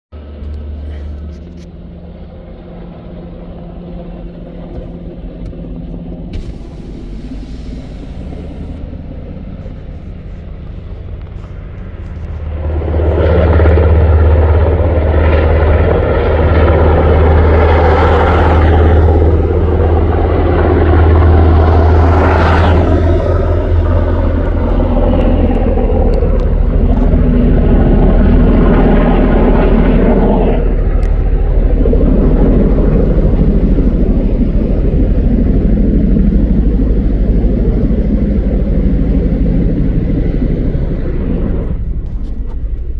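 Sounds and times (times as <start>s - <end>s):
helicopter flying close by: 0.2s - 42.9s.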